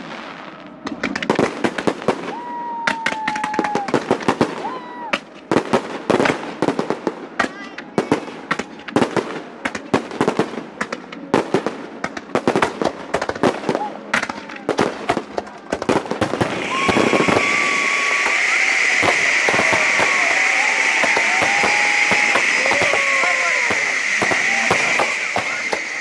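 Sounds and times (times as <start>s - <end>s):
fireworks bangs and crackles: 0.0s - 26.0s
ground fountains hissing: 0.0s - 26.0s.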